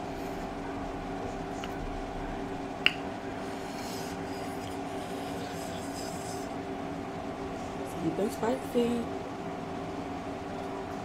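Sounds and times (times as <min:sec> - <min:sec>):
steady room hum: 0:00.0 - 0:11.0.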